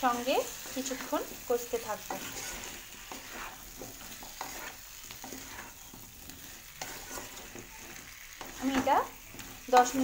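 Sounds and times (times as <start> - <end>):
vegetables sizzling in oil: 0.0 - 10.0
wooden spatula scraping pan: 0.0 - 10.0.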